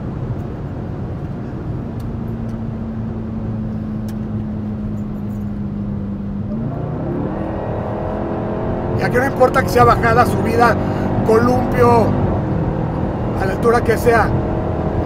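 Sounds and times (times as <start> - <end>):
car engine running at speed: 0.0 - 15.0
road noise rumble: 0.0 - 15.0.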